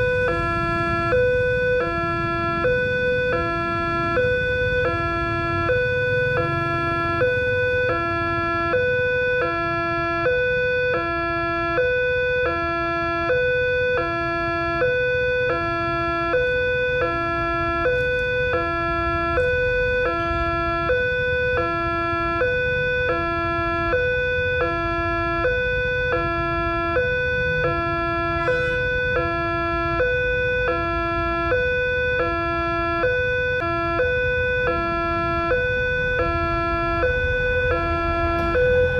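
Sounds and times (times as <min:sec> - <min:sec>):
low rumble of road traffic: 0:00.0 - 0:38.9
two-tone crossing alarm: 0:00.0 - 0:38.9.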